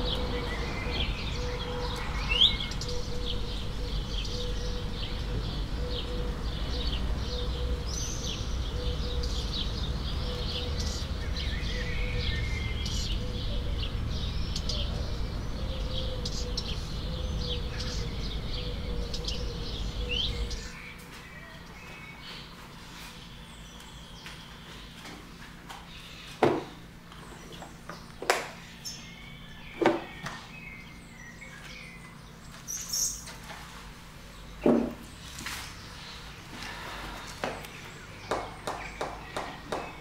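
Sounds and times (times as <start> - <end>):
faint steady hum: 0.0 - 40.0
small birds chirping: 0.0 - 40.0.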